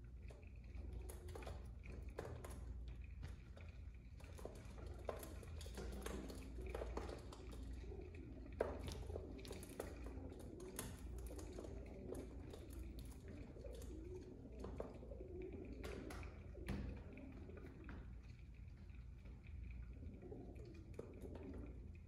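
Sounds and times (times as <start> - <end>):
pigeon beaks tapping bowls: 0.2 - 18.2.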